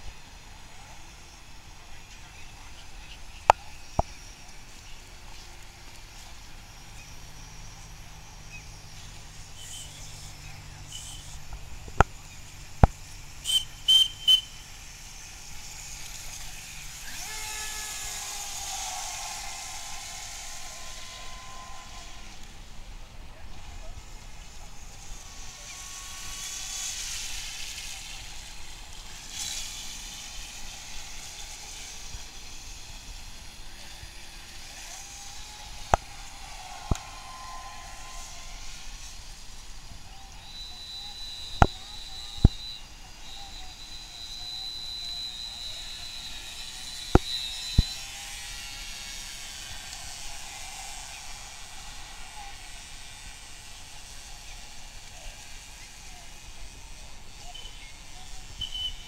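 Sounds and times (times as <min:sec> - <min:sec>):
model boat motor whine: 0:00.0 - 0:59.0.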